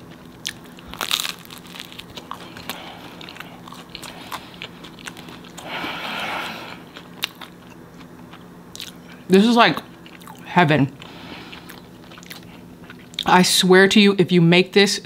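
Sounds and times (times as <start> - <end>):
person chewing crunchy food: 0.0 - 13.3.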